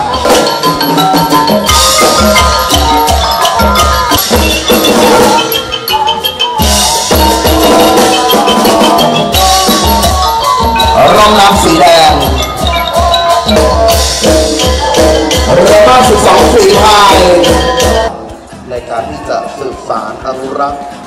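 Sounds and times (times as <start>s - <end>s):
steady drum beats: 0.0s - 21.0s
xylophone notes: 0.0s - 21.0s.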